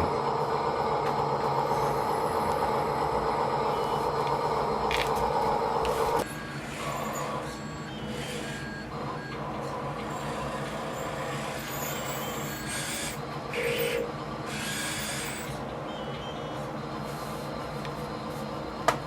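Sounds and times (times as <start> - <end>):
small motor humming: 0.0 - 15.6.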